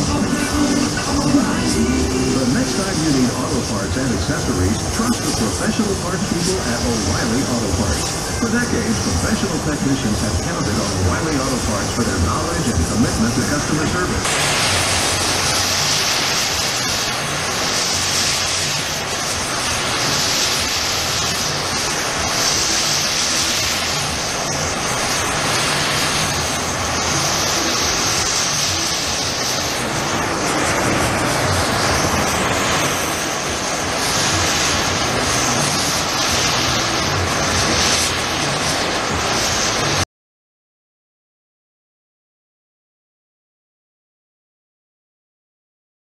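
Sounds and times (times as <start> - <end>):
gas torch flame hissing: 0.0 - 40.0.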